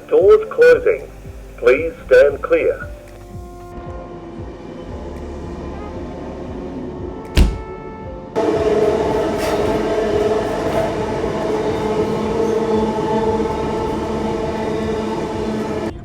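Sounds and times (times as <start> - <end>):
electric train motor whine: 0.0 - 16.0
wheels rumbling on rails: 0.0 - 16.0.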